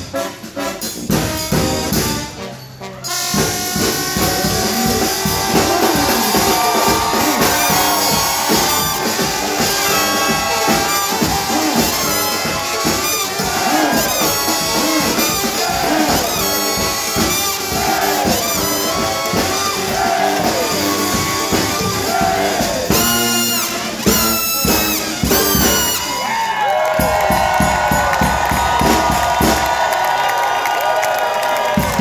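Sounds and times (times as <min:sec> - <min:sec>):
brass funk band playing: 0:00.0 - 0:32.0.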